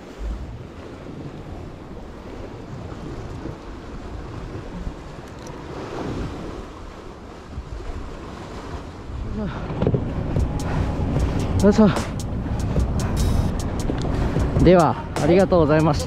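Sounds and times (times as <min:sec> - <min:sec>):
waves washing against rocky shore: 0:00.0 - 0:16.0
wind buffeting microphone: 0:00.0 - 0:16.0.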